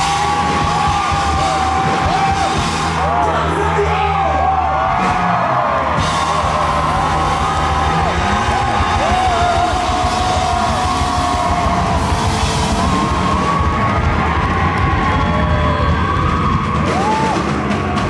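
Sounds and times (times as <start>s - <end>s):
live rock band playing loudly: 0.0s - 18.0s.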